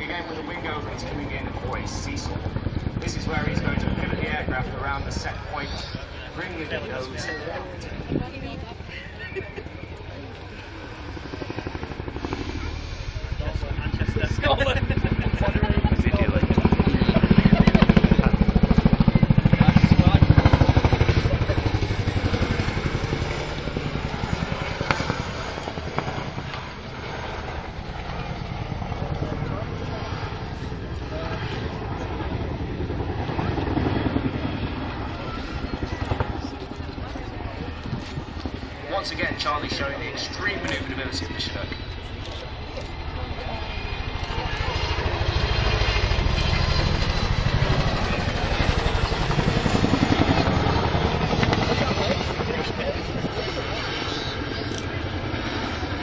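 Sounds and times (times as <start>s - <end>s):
helicopter engine noise: 0.0s - 56.0s
helicopter rotors beating: 0.0s - 56.0s.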